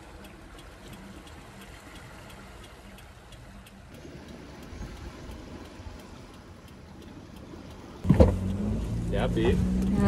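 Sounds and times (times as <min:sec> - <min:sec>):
car engine rumbling: 0:00.0 - 0:10.0
steady ticking: 0:00.0 - 0:10.0.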